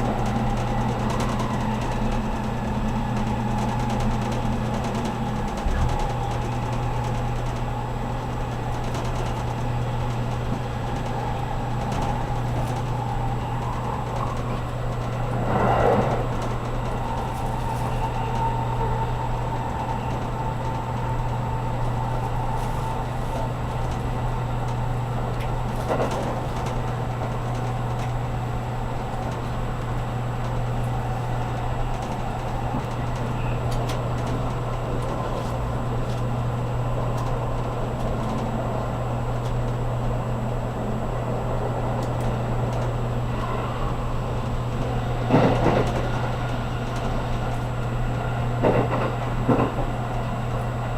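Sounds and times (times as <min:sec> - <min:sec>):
low cabin hum: 0:00.0 - 0:50.9
train wheels rumbling on rails: 0:00.0 - 0:50.9.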